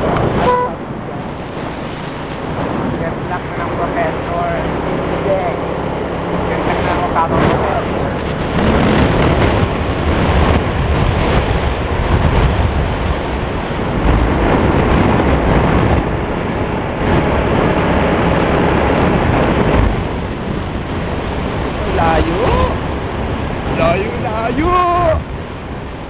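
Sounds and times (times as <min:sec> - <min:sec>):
wind buffeting microphone: 0:00.0 - 0:26.0
motorcycle engine running: 0:02.4 - 0:23.7.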